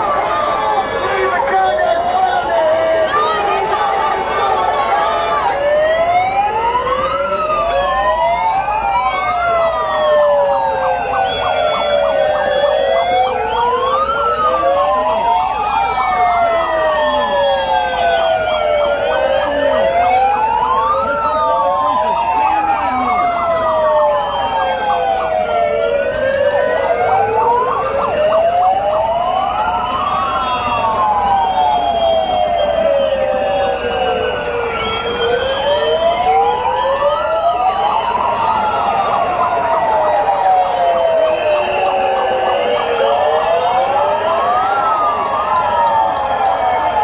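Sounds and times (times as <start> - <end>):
emergency vehicle sirens wailing: 0.0 - 47.0.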